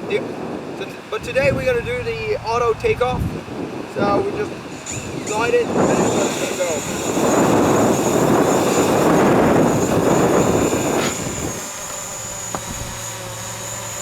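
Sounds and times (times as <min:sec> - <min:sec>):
wind buffeting microphone: 0:00.0 - 0:14.0
drone propellers buzzing: 0:00.2 - 0:14.0.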